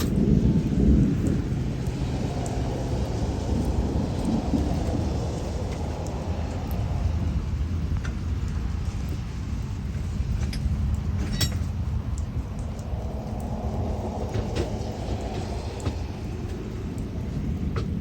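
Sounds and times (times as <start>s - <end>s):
drips tapping: 0.0s - 18.0s
low rumble of thunder: 0.0s - 18.0s
rain falling: 0.0s - 18.0s.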